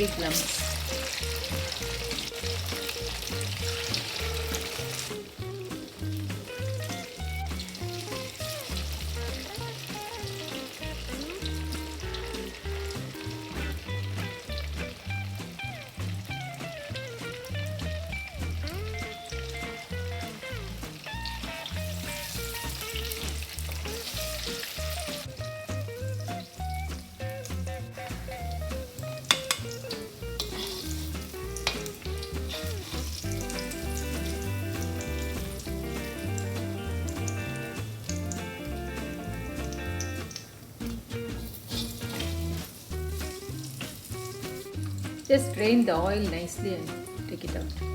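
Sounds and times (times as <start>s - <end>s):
background music with bass line: 0.0s - 47.9s
food deep-frying in hot oil: 0.0s - 47.9s.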